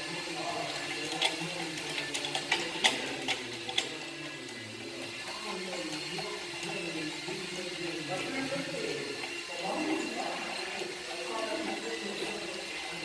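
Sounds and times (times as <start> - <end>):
hand tools clicking and clinking: 0.0 - 13.0.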